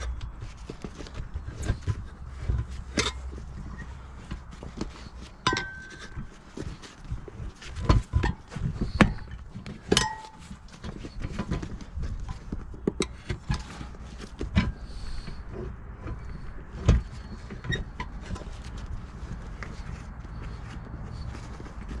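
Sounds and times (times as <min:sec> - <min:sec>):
rubber squeaks: 0:00.0 - 0:22.0
tire knocks and thumps on rim: 0:00.0 - 0:22.0.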